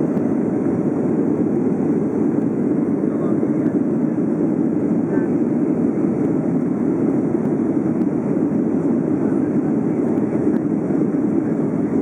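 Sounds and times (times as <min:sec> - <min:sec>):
jet engine cabin noise: 0:00.0 - 0:12.0.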